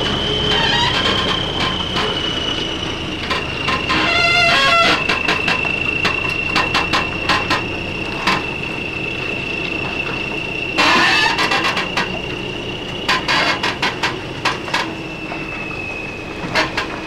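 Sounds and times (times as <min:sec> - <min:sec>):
train wheels squealing: 0:00.0 - 0:17.0
wheels clicking over rails: 0:00.0 - 0:17.0.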